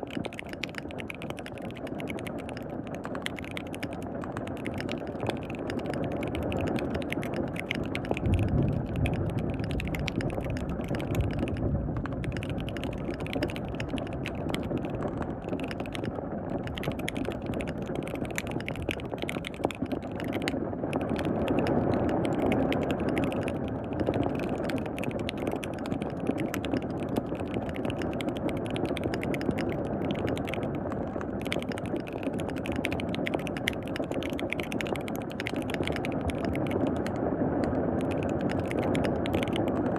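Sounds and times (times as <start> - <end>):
fast mechanical keyboard typing: 0.0 - 39.9
rain: 0.0 - 39.9.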